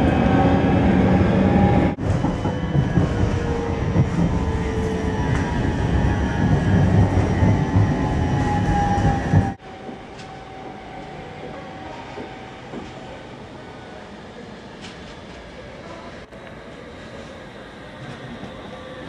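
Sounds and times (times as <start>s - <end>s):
distant metro train approaching: 0.0s - 19.0s
metro train rumble and motor whine: 0.0s - 19.0s.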